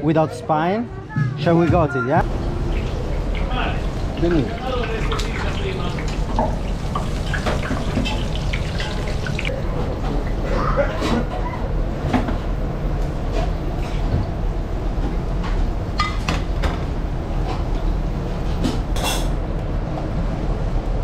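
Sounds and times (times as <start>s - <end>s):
low kitchen rumble: 0.9s - 21.0s.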